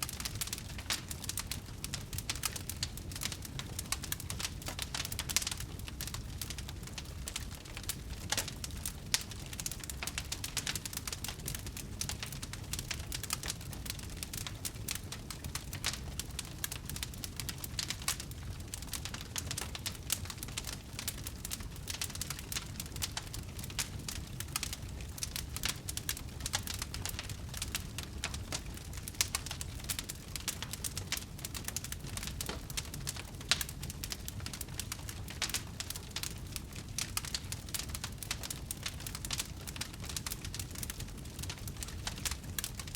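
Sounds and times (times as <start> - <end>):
fire crackling pops and snaps: 0.0 - 42.9
low steady fire rumble: 0.0 - 42.9.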